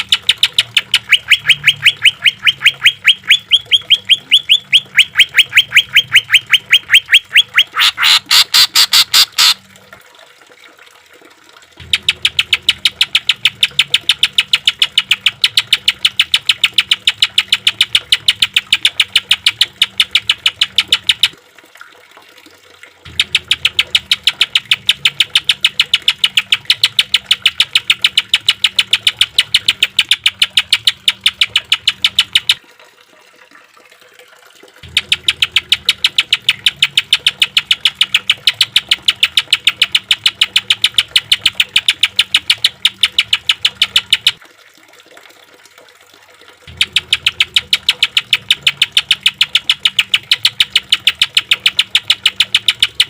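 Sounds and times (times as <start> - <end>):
bird giving harsh rapid rattle: 0.0 - 9.6, 11.8 - 21.3, 23.1 - 32.6, 34.8 - 44.4, 46.7 - 53.0.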